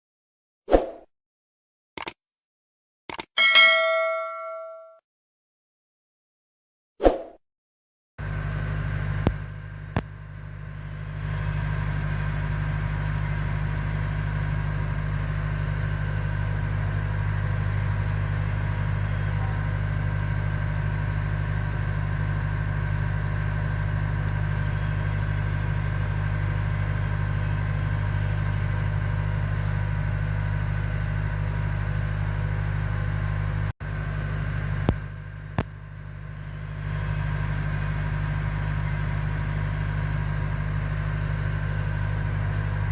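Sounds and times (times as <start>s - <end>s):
low rumbling hum: 8.2s - 42.9s.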